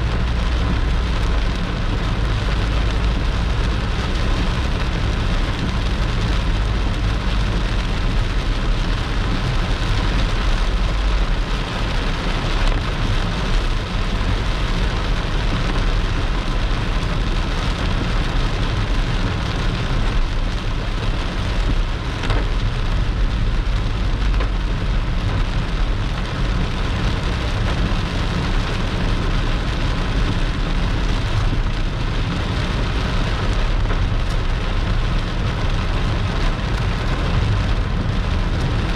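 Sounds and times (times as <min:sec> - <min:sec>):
heavy rain pouring: 0:00.0 - 0:38.9
low rumble: 0:00.0 - 0:38.9.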